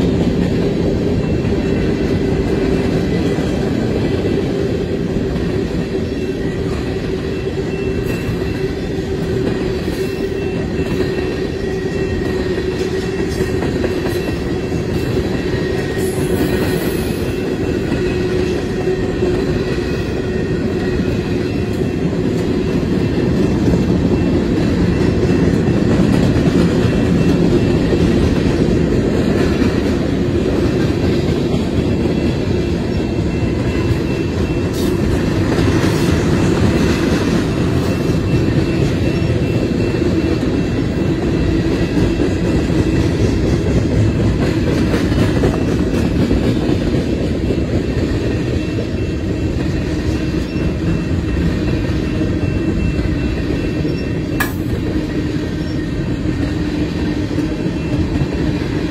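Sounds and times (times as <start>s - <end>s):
steel wheels rumbling on rails: 0.0s - 58.9s.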